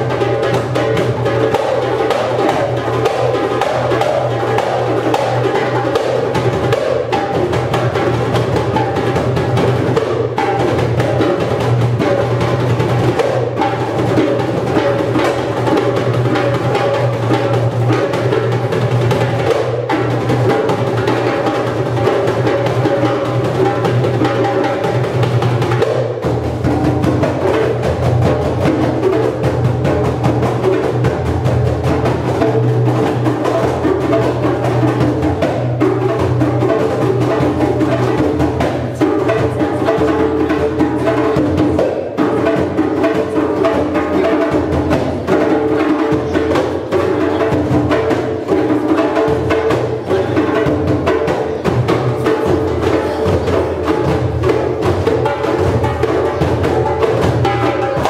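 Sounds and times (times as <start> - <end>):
hand drums playing rhythm: 0.0 - 58.0.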